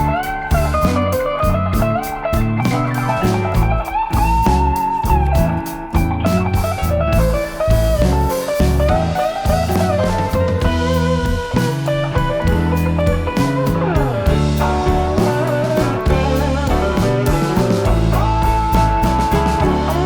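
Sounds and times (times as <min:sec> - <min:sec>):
bluesy guitar tune: 0:00.0 - 0:20.0
drum kit: 0:00.0 - 0:20.0.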